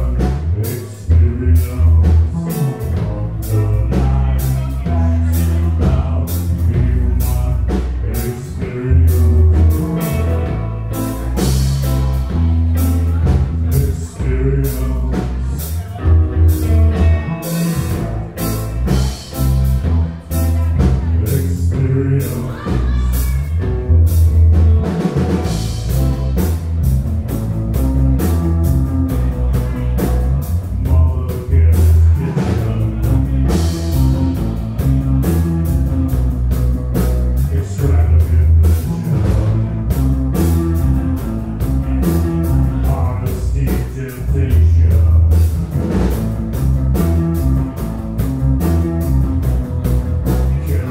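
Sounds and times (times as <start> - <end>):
person singing: 0.0 - 26.6, 28.0 - 36.1, 37.3 - 39.7, 40.3 - 45.6, 50.3 - 50.9
live rock band playing: 0.0 - 50.9.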